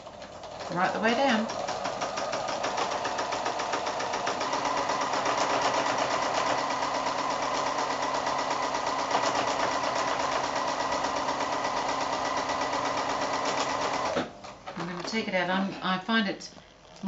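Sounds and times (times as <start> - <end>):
sewing machine stitching: 0.0 - 15.0.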